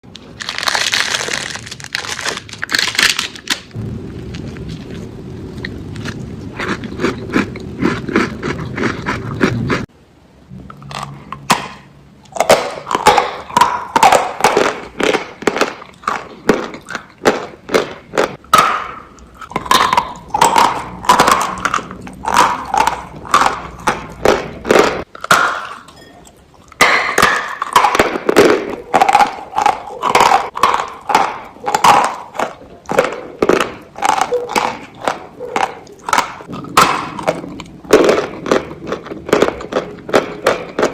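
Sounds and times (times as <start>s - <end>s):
chewing crisp biscuits: 0.0s - 9.9s, 10.8s - 40.9s.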